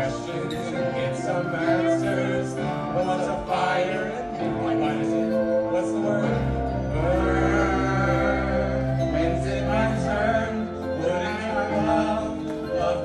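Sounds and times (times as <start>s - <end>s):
backing track with bass: 0.0s - 13.0s
men singing karaoke: 0.0s - 13.0s.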